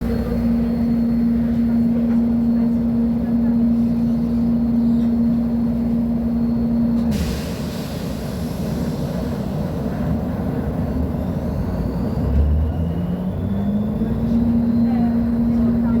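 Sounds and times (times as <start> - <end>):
bus diesel engine rumble: 0.0 - 16.0.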